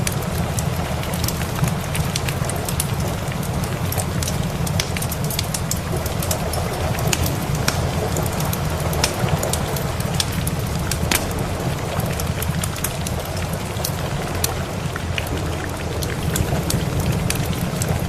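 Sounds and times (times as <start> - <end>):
rain falling: 0.0 - 18.0
wood fire crackling: 0.0 - 18.0.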